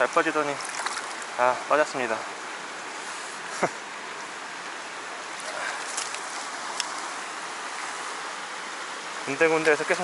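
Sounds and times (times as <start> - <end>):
stream running over rocks: 0.0 - 10.0.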